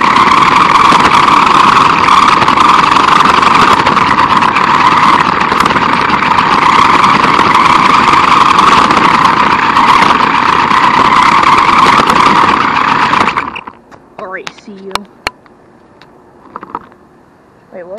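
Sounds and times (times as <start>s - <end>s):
rc car motor whirring: 0.0s - 15.0s.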